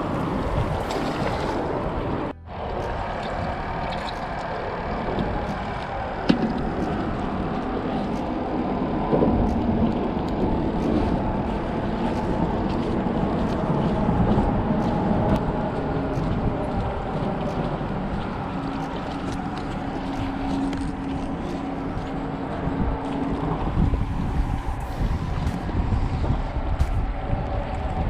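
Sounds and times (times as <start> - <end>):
traffic rumble on bridge: 0.0 - 28.0.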